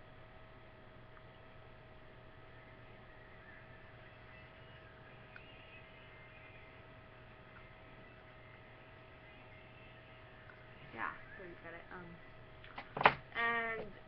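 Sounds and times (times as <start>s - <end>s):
faint electrical hum with hiss: 0.0s - 14.0s.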